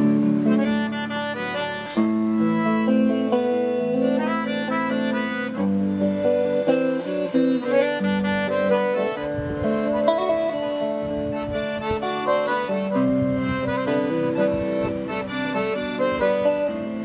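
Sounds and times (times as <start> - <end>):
accordion melody: 0.0 - 17.0
plucked guitar: 0.0 - 17.0.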